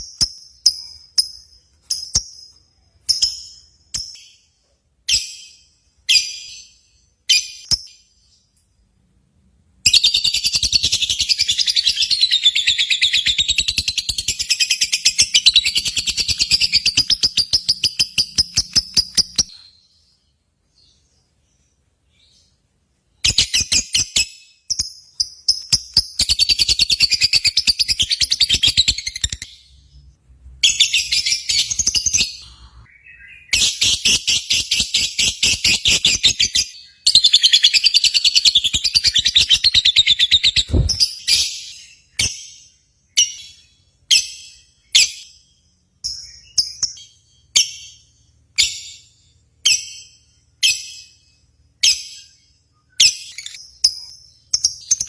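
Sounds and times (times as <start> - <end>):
sharp bird chirps: 0.0 - 8.6, 9.9 - 30.1, 30.7 - 55.0.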